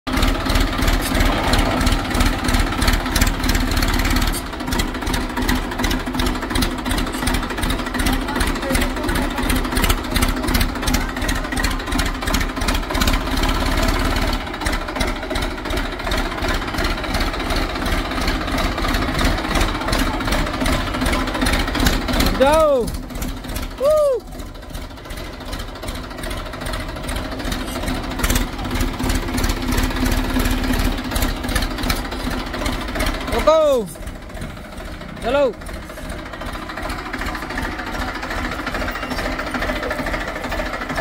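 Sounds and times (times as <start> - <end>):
tractor diesel engine idling: 0.0 - 41.0.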